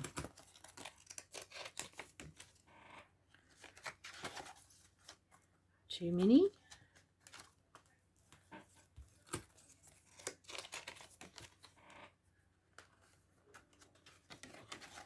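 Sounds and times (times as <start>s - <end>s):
paper envelopes rustling: 0.0s - 2.7s, 3.3s - 5.5s, 6.2s - 11.8s, 12.7s - 15.0s.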